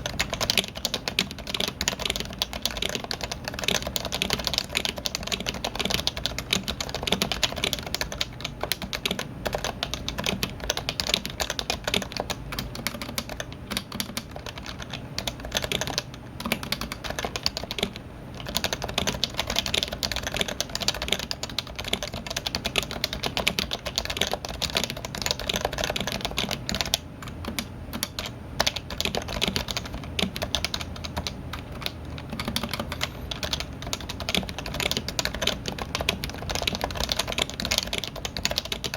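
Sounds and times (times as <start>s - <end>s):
fast keyboard typing: 0.0s - 38.9s.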